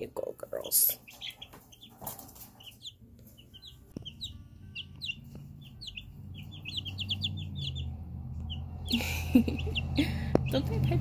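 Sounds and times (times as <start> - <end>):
chicks peeping: 0.1 - 11.0.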